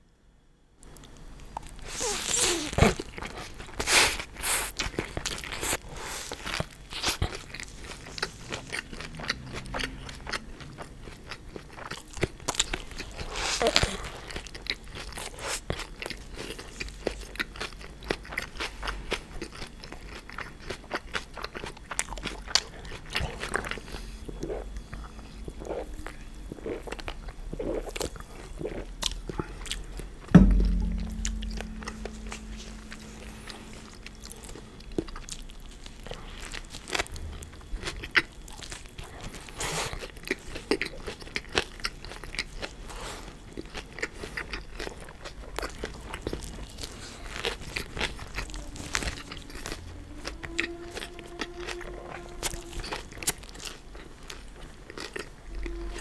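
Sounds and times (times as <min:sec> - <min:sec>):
crunchy food chewing: 0:00.8 - 0:56.0.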